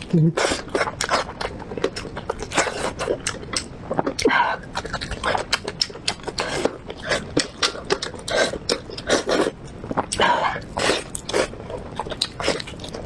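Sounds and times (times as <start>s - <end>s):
person chewing with wet smacks: 0.0s - 13.0s.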